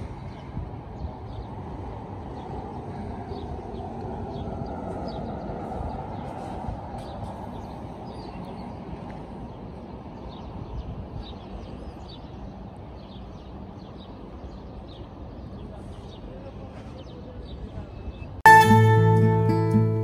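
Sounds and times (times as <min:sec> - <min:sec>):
small birds chirping: 0:00.0 - 0:18.4
low city rumble: 0:00.0 - 0:20.0.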